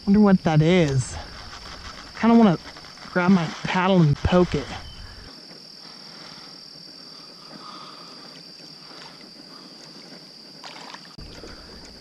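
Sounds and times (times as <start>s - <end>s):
frogs and insects trilling: 0.0s - 12.0s.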